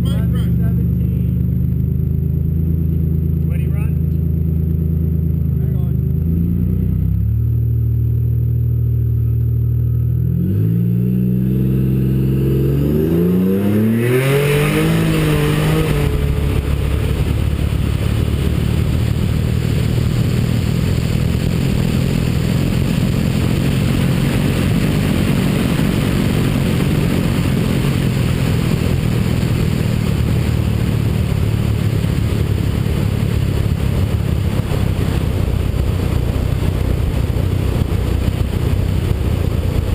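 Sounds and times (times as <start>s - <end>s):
loud steady noise: 0.0s - 9.7s, 11.4s - 39.9s
car engine revving: 0.0s - 39.9s.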